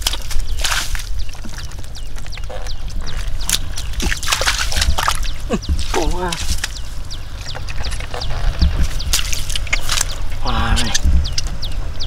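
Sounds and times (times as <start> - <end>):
water splashing: 0.0 - 11.1.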